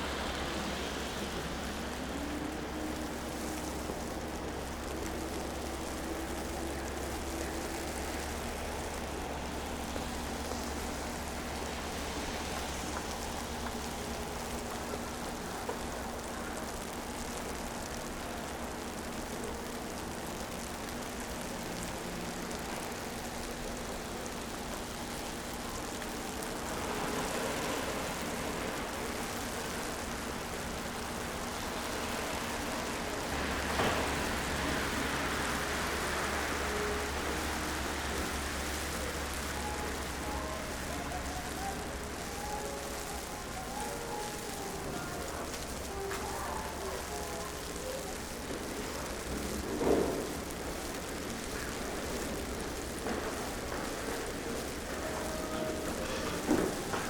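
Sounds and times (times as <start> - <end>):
passing traffic hum: 0.0 - 57.0
wet hiss of snowfall: 0.0 - 57.0.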